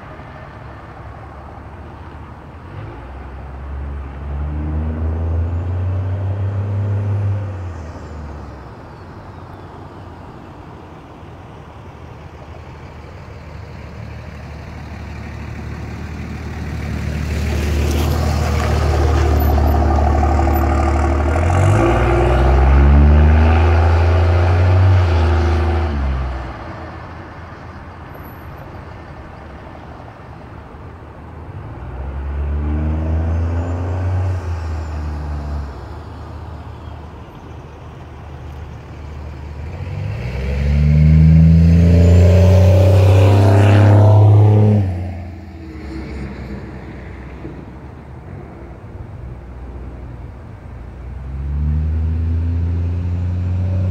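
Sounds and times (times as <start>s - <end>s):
diesel truck driving by: 0.0s - 53.9s.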